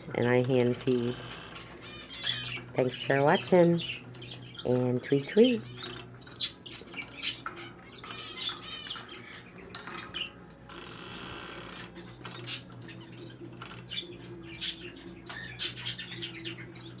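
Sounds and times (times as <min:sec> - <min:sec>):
budgerigars chirping and squawking: 0:00.2 - 0:17.0.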